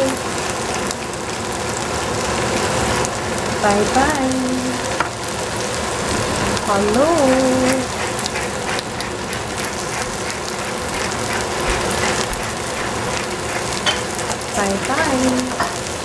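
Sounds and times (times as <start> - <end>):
spinach sizzling in frying pan: 0.0 - 16.0.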